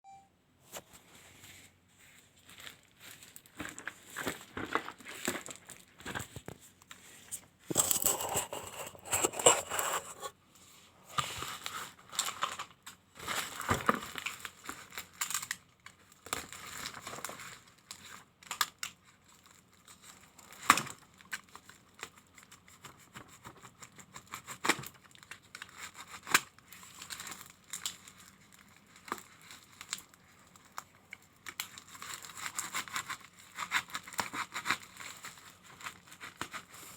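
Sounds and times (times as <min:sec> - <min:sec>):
packaging torn and crinkled: 0:02.4 - 0:06.4, 0:07.7 - 0:10.3, 0:11.4 - 0:22.8, 0:23.8 - 0:36.7.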